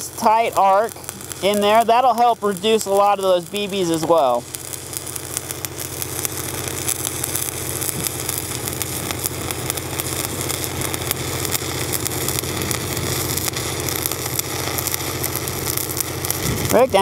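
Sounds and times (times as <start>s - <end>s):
welder engine humming: 0.0s - 17.0s
welding arc crackling: 0.0s - 17.0s.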